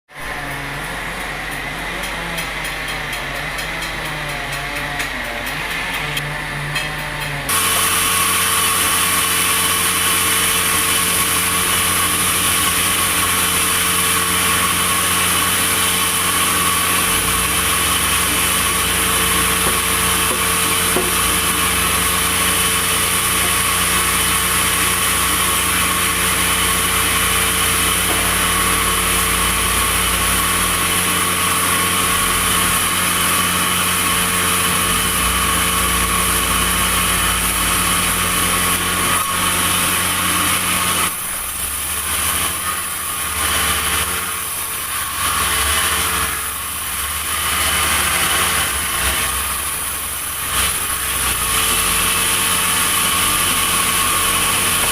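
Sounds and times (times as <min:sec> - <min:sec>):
high machine whine: 0:00.1 - 0:54.9
sawmill machinery humming: 0:00.1 - 0:54.9.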